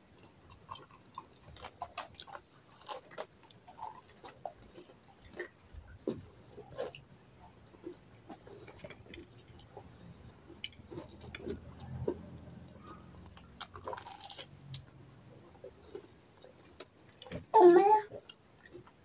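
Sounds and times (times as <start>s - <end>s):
person chewing crunchy food: 0.0s - 17.5s, 18.2s - 19.0s.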